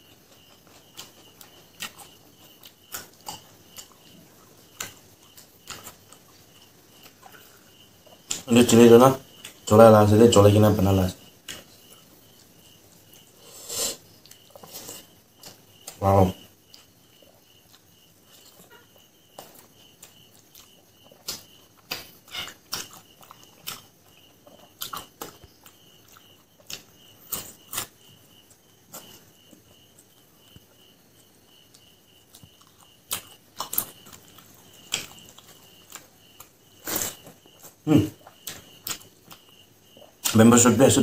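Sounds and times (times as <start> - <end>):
wet chewing: 0.0 - 9.7, 11.2 - 16.0, 16.6 - 40.4.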